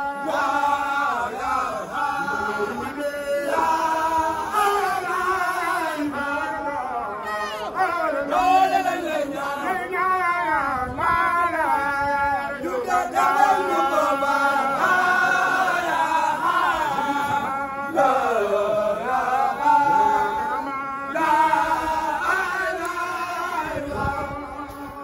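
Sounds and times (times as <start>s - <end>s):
men chanting into a microphone: 0.0s - 25.0s.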